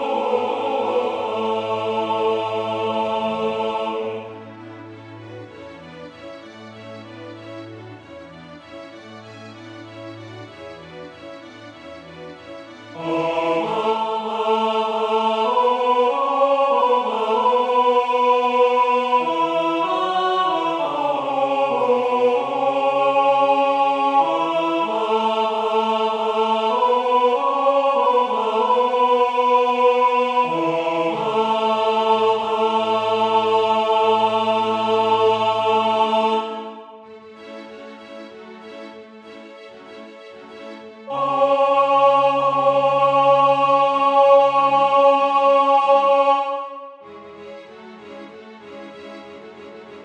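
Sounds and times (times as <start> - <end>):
synthesized choir singing a hymn: 0.0 - 50.0.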